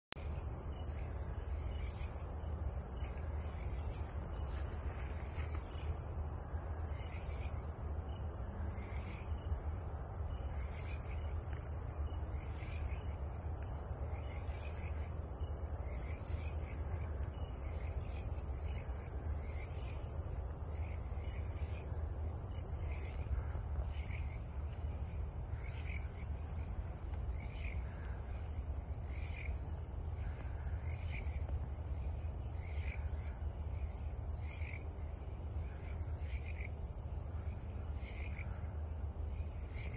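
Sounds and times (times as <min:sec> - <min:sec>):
crickets trilling: 0:00.2 - 0:39.9
insect chirps: 0:00.2 - 0:39.9.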